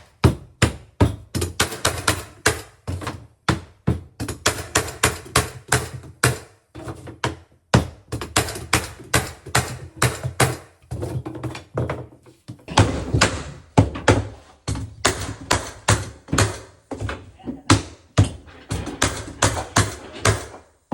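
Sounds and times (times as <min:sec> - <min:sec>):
hard knocks on floor boards: 0:00.0 - 0:06.5, 0:07.2 - 0:20.6.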